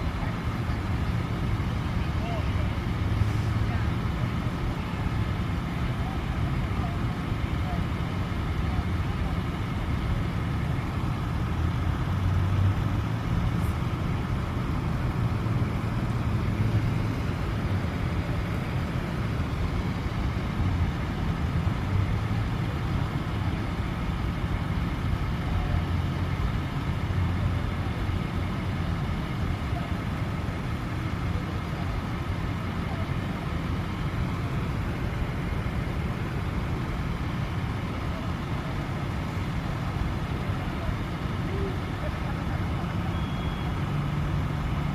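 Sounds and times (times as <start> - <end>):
large vehicle engine rumbling: 0.0 - 44.9.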